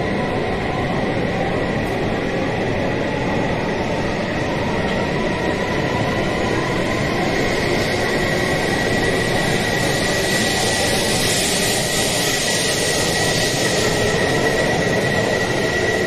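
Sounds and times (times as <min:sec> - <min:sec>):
high-pitched train whine: 0:00.0 - 0:16.0.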